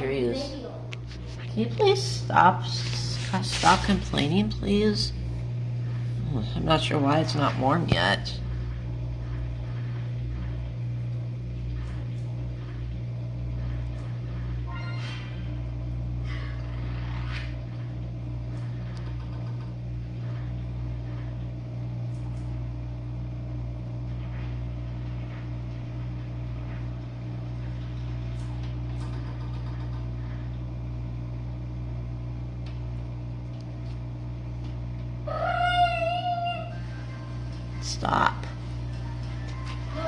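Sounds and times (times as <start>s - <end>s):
dishwasher humming: 0.0s - 40.0s.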